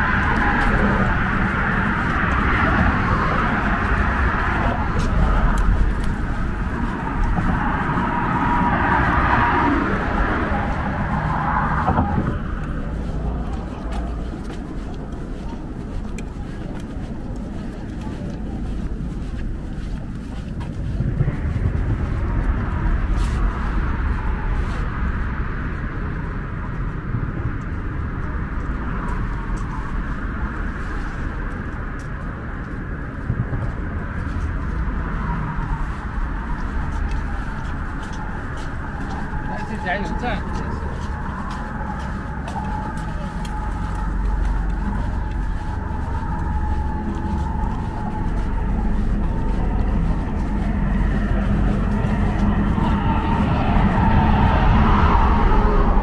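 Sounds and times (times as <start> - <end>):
highway traffic rushing: 0.0 - 56.0
wind rumble on microphone: 0.0 - 56.0.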